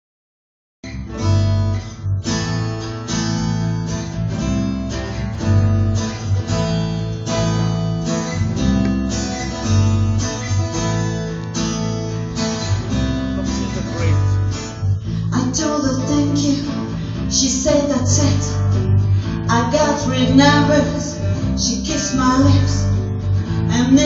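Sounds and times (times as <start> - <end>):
bass guitar line: 0.8 - 24.0
strummed guitar: 0.8 - 24.0.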